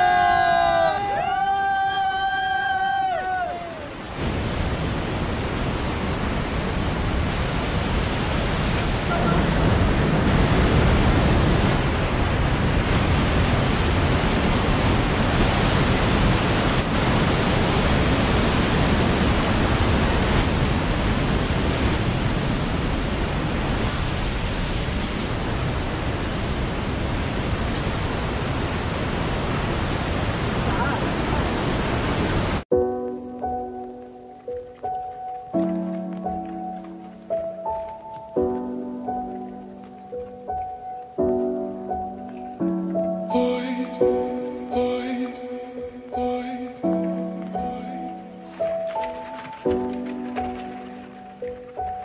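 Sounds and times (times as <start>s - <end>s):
waterfall rushing over rock: 0.0s - 52.0s.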